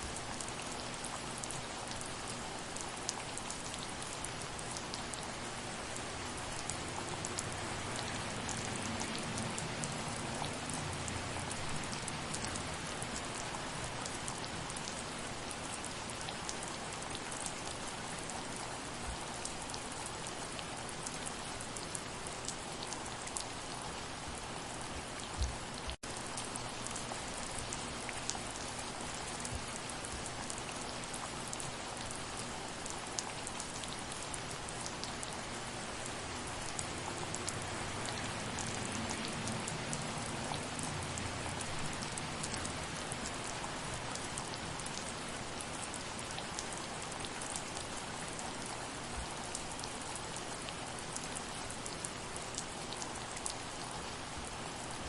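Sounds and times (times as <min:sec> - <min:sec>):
soft rain: 0:00.0 - 0:55.0.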